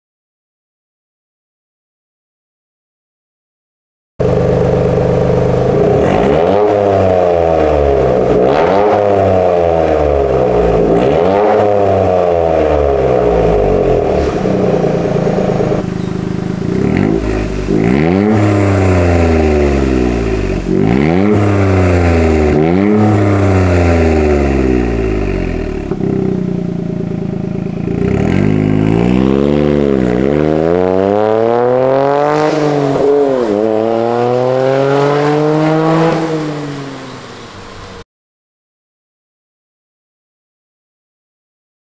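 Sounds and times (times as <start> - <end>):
car engine revving: 4.2 - 38.0
car pulling away: 4.2 - 38.0.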